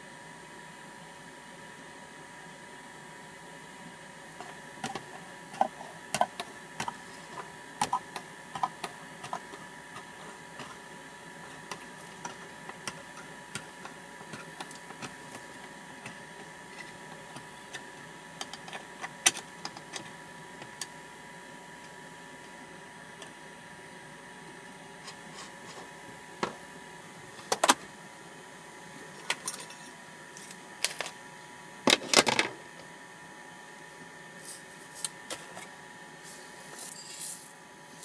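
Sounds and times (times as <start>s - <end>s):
faint hum: 0.0s - 31.2s.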